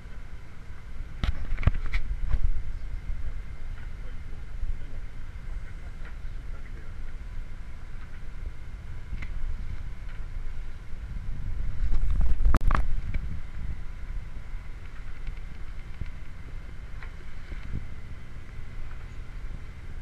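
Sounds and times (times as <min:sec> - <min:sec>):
water noise: 0:00.0 - 0:20.0
wind buffeting microphone: 0:00.0 - 0:20.0.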